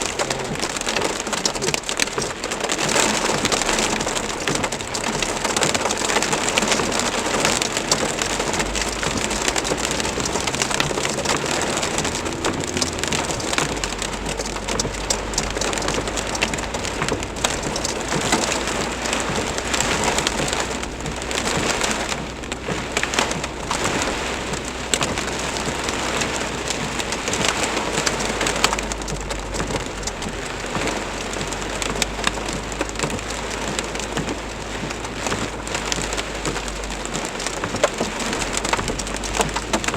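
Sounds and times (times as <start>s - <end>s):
heavy rain and hail pelting: 0.0s - 39.9s.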